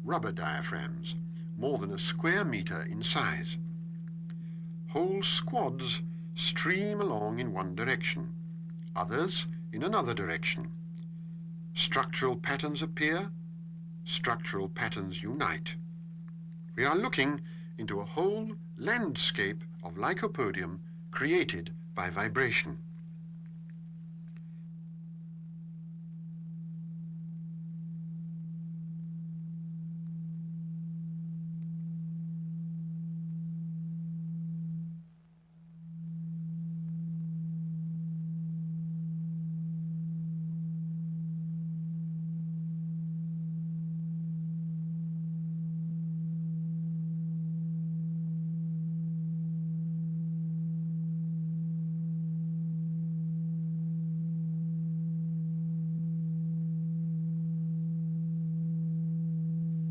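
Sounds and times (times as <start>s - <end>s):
low pure tone: 0.0s - 59.9s.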